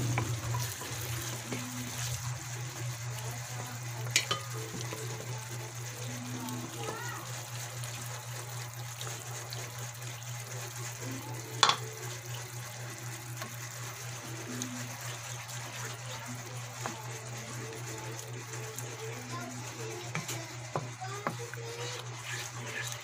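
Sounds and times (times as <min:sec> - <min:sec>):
wooden spatula stirring: 0:00.0 - 0:11.0, 0:13.4 - 0:23.0
sauce simmering in a pan: 0:00.0 - 0:23.0.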